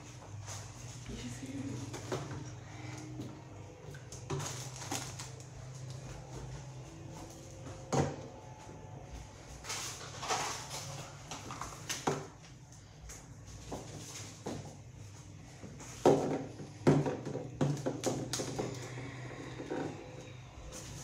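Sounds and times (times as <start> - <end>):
items being handled: 0.0 - 21.0.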